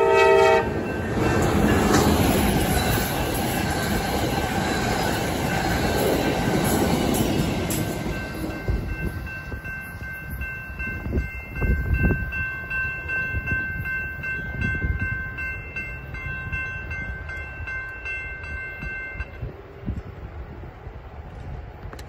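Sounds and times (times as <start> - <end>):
railroad crossing bell ringing: 0.0 - 20.2.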